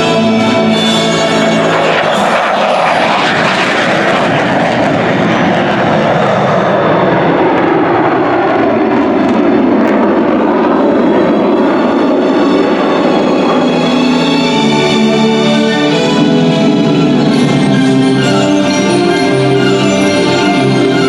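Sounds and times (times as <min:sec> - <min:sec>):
fighter jet engine passing: 0:00.0 - 0:21.0.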